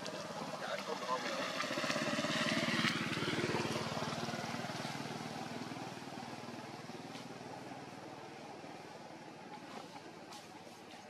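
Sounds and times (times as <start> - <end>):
vehicle engine running: 0.0 - 10.6.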